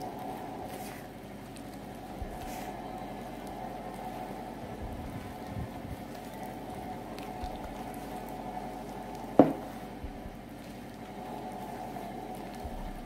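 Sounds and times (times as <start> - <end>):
faint steady hum: 0.0 - 13.0
hand squishing dough in bowl: 0.0 - 13.0.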